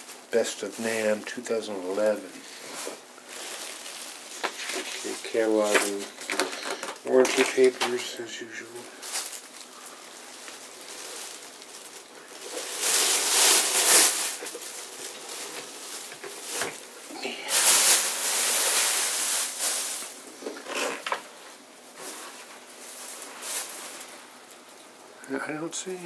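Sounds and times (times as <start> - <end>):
packing material rustling: 0.0 - 25.1.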